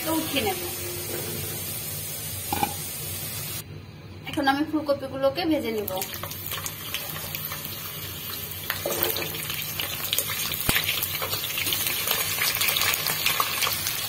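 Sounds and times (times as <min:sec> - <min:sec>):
vegetables sizzling in hot oil: 0:00.0 - 0:03.6, 0:05.8 - 0:14.0.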